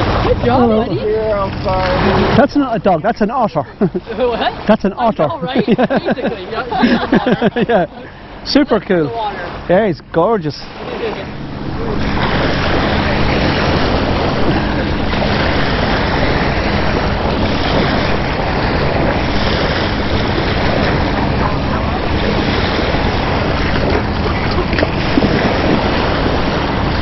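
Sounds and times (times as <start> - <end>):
small waves lapping: 0.0 - 27.0
wind buffeting microphone: 0.0 - 27.0.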